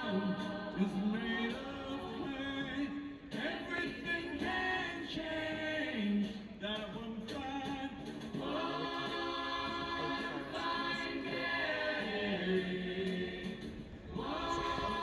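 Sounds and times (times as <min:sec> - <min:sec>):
choir singing in harmony: 0:00.0 - 0:06.5, 0:07.9 - 0:15.0.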